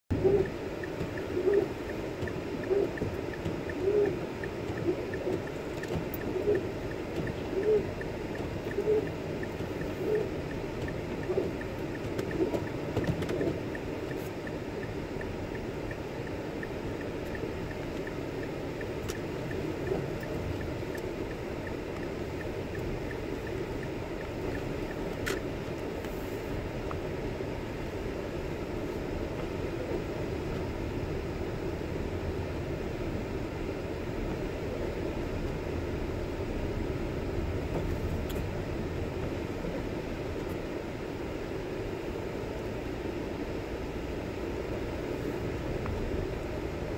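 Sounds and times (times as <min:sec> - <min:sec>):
road and engine noise: 0:00.0 - 0:46.9
windshield wipers moaning: 0:00.1 - 0:46.9.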